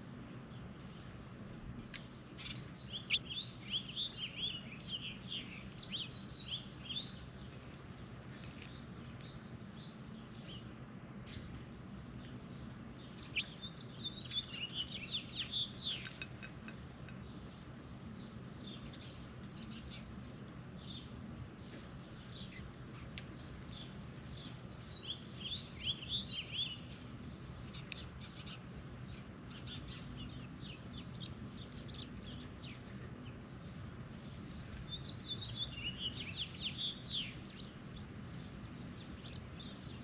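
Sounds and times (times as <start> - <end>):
faint low hum: 0.0 - 40.0
songbird high chirps: 1.9 - 40.0.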